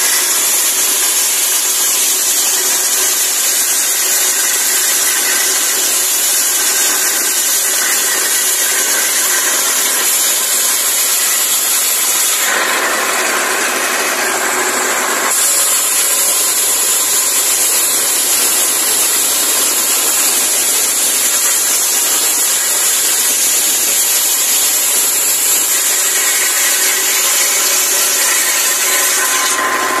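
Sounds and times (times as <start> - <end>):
circular saw cutting log: 0.0 - 30.0.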